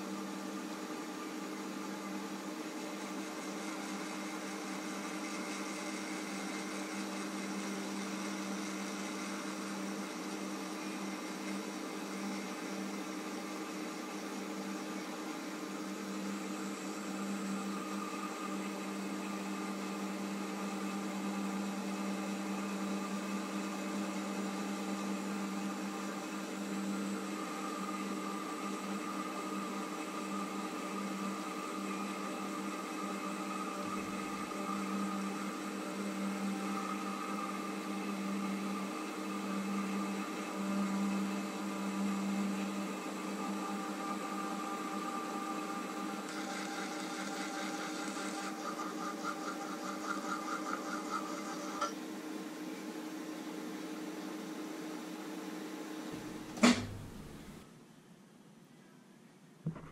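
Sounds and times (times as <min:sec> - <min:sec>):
metal lathe humming: 0:00.1 - 0:52.0.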